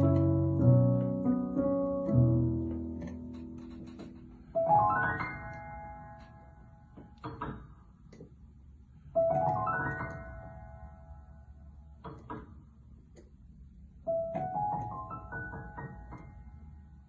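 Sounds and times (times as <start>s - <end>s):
solo piano: 0.0s - 7.9s, 9.0s - 12.6s, 14.0s - 17.0s.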